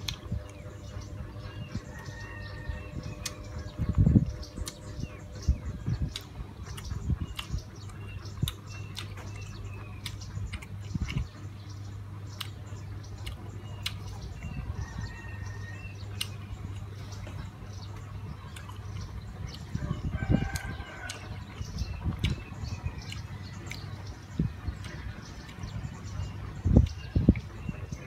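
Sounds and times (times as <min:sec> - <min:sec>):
close chewing: 0:00.0 - 0:28.0
low hum: 0:00.0 - 0:28.0.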